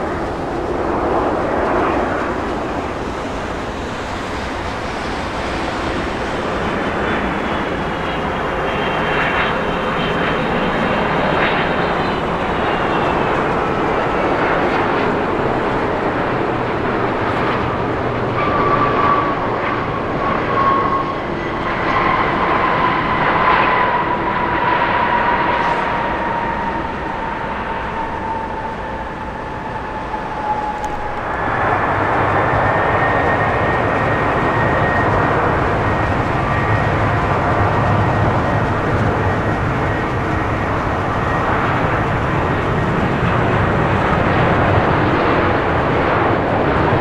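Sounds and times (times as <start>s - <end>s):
jet airliner engine rush: 0.0s - 47.0s
jet engine whine: 0.0s - 47.0s.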